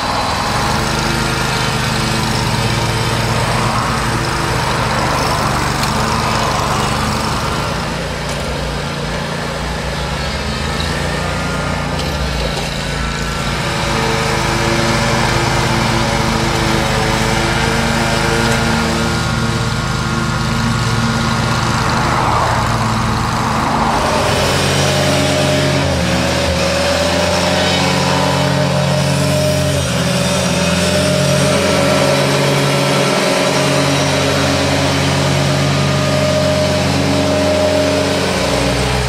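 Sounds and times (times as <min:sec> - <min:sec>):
ride-on mower engine droning: 0:00.0 - 0:39.0.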